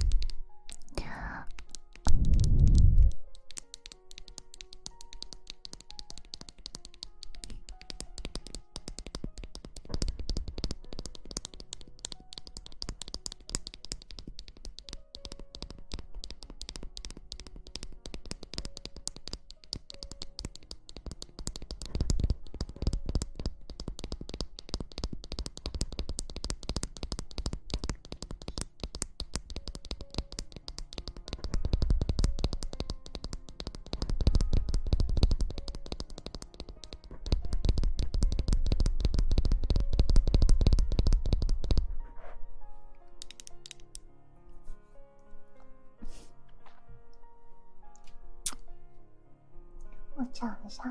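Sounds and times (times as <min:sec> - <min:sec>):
soft background music: 0:00.0 - 0:50.9.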